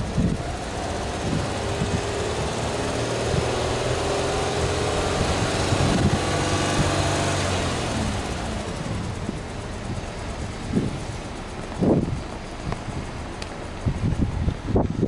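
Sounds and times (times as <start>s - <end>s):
car engine exhaust note: 0.0s - 15.0s.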